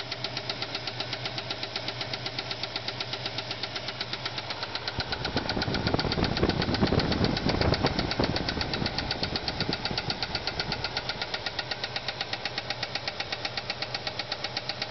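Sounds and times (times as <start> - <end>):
engine lifter ticking: 0.0 - 14.9
engine rumble: 0.0 - 14.9.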